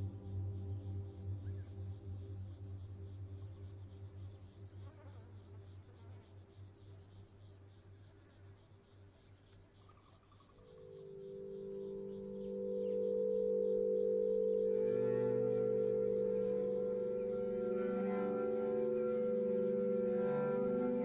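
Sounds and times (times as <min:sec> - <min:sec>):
faint high hiss: 0:00.0 - 0:21.0
quiet ambient music: 0:00.0 - 0:21.0.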